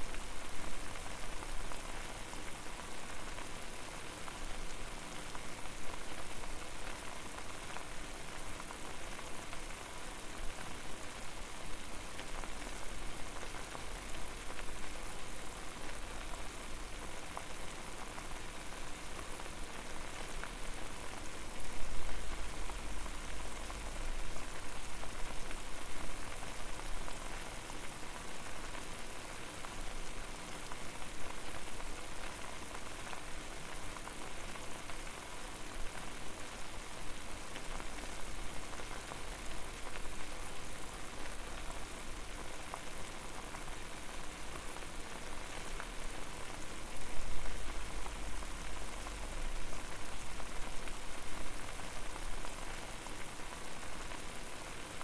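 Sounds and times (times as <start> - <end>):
water boiling and bubbling: 0.1 - 55.0.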